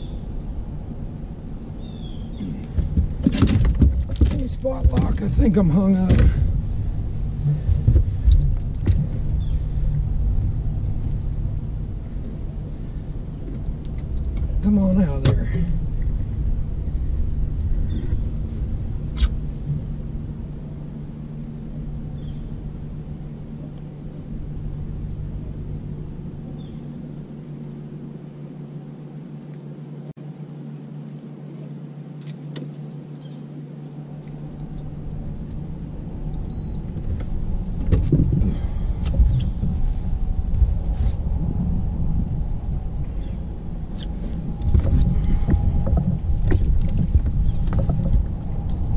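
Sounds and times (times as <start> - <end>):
boat motor humming: 0.0 - 48.9.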